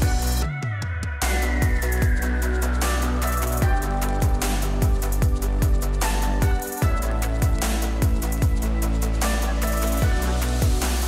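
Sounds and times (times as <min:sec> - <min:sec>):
electronic music with kick drums: 0:00.0 - 0:11.0.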